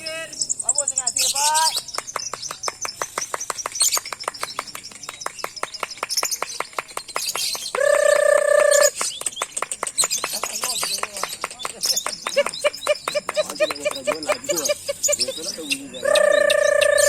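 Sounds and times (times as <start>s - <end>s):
high bird chirps: 0.0s - 17.0s
lovebirds chattering trill: 0.0s - 17.0s.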